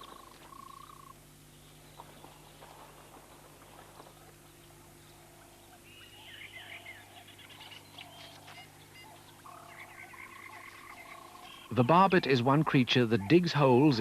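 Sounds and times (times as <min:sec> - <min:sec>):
birds chirping: 0:00.0 - 0:14.0
faint steady hum: 0:00.0 - 0:14.0.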